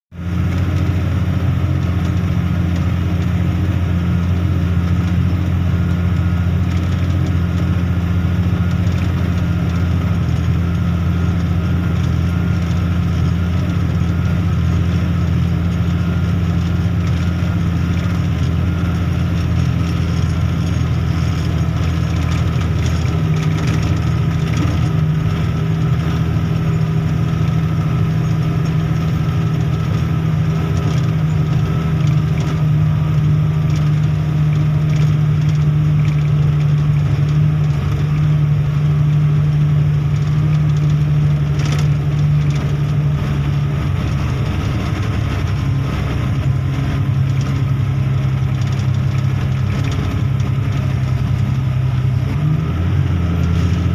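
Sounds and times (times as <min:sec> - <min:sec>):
diesel truck engine drone: 0:00.1 - 0:53.9.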